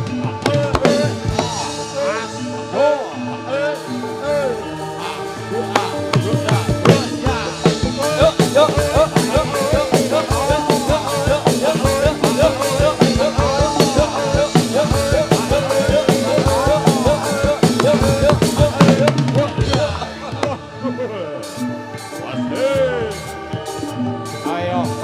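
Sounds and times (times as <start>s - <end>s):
wavering gamelan melody: 0.0s - 25.0s.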